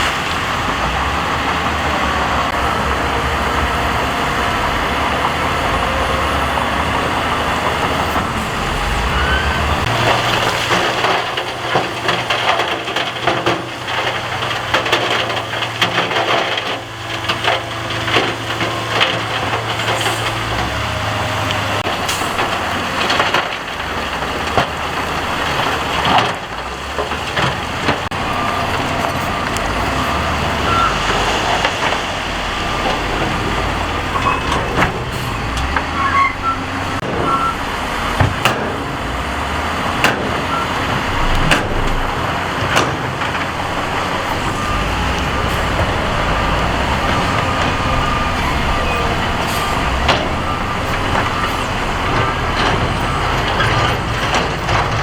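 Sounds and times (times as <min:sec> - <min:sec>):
diesel engine under load: 0:00.0 - 0:55.0
rock and gravel crunching: 0:07.0 - 0:55.0.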